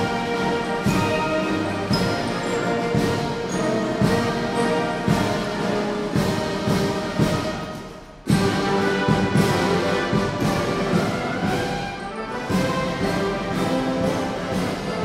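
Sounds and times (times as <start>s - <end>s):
brass marching band playing: 0.0s - 15.0s.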